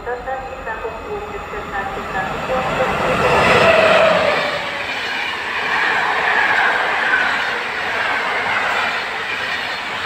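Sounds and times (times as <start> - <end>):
train wheels rolling on rails: 0.0 - 10.0.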